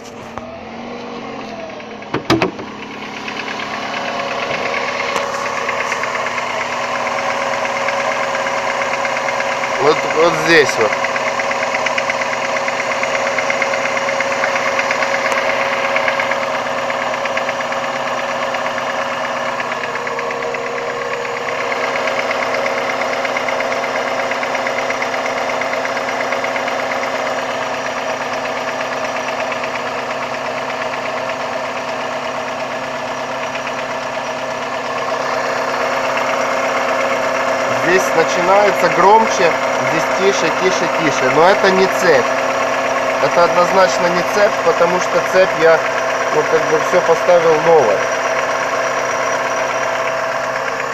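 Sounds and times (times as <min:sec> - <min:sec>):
car engine idling: 0:00.0 - 0:50.9
fast ticking engine knock: 0:01.7 - 0:50.9.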